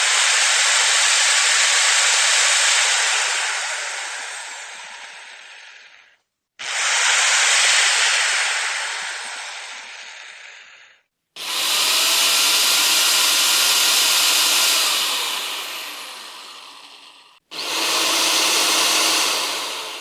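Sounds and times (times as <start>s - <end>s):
electric drill running: 0.0s - 20.0s.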